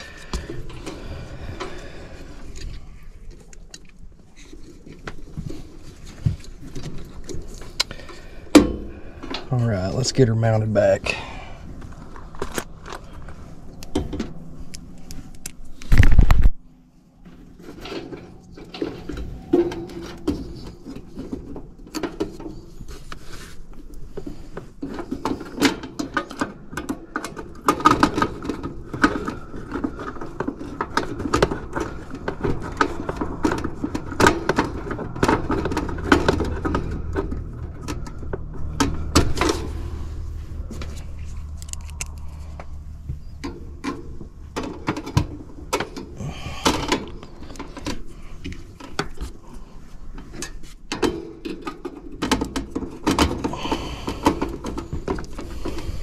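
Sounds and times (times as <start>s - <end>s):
low hum: 0.0s - 25.8s, 26.7s - 50.5s
rustling of wires and metal: 0.0s - 56.0s.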